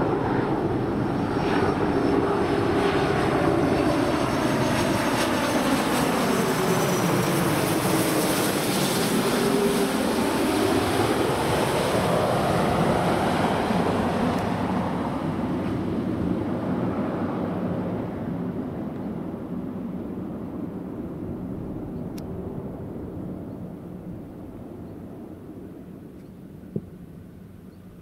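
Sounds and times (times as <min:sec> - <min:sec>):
jet aircraft passing overhead: 0:00.0 - 0:27.6.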